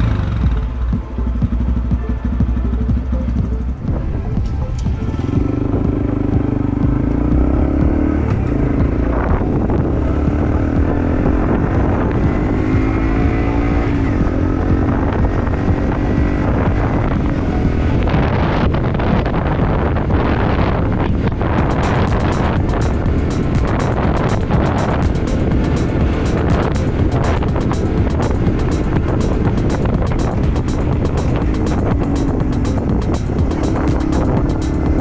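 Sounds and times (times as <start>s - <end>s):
motorcycle engine accelerating: 0.0s - 35.0s
wind noise on microphone: 3.2s - 35.0s.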